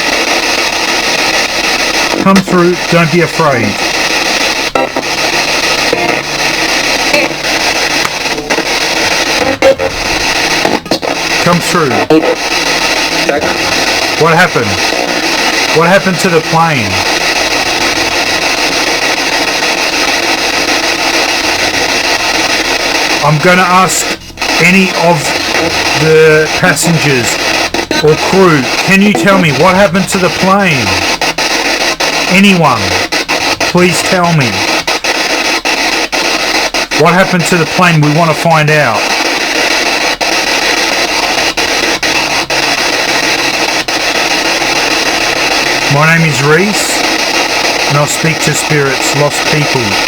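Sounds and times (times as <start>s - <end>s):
radio static with rapid flicker: 0.0s - 50.0s.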